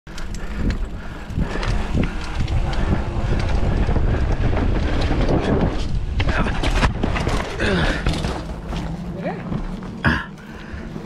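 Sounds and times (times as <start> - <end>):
bike knocking and rattling: 0.1 - 11.0
tyres rolling over dirt: 0.1 - 11.0
wind buffeting microphone: 0.1 - 11.0.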